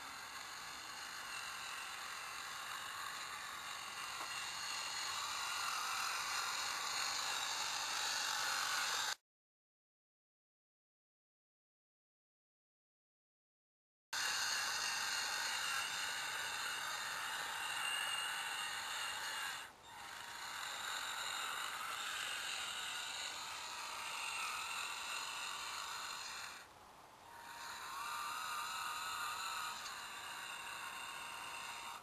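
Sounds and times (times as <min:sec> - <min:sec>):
electric motor whine: 0:00.0 - 0:09.2, 0:14.2 - 0:32.0.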